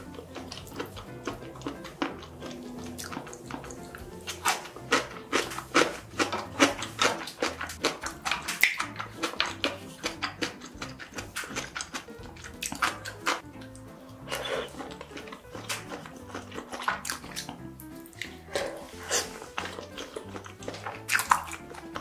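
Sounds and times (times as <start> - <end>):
person chewing wet food: 0.0 - 22.0.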